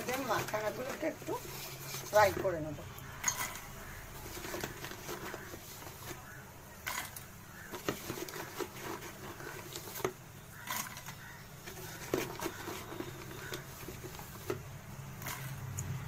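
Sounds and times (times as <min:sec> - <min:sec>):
nuts pattering into steel pan: 0:00.0 - 0:15.7.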